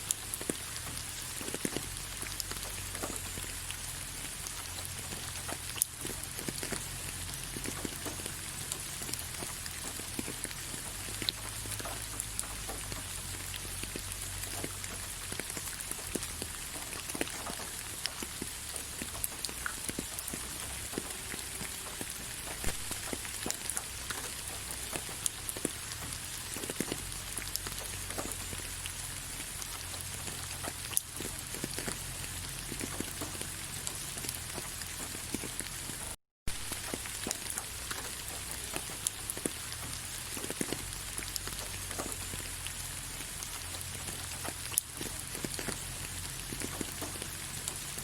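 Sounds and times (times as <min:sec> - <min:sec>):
rain falling on leaves: 0:00.0 - 0:48.0
raindrops ticking: 0:00.0 - 0:48.0.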